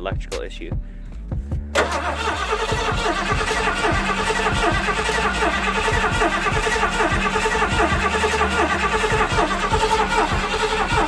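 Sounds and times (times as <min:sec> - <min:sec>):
engine cranking by starter: 0:01.7 - 0:11.0.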